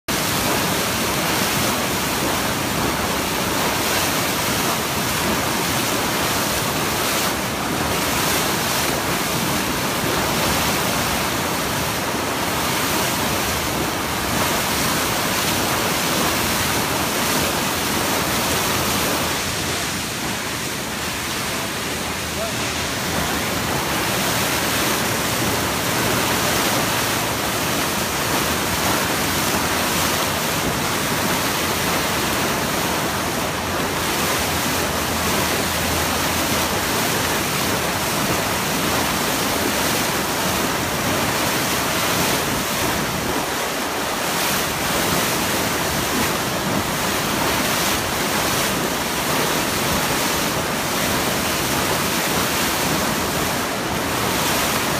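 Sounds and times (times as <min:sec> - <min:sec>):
river water rushing and splashing: 0:00.0 - 0:54.9.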